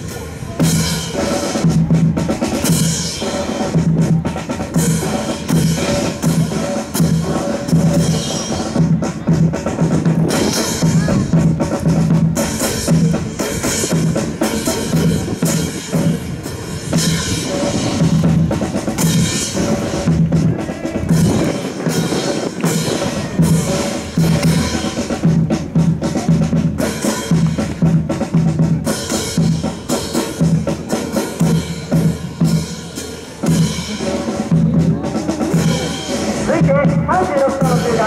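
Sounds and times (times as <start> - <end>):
snare and bass drum cadence: 0.1 - 38.0.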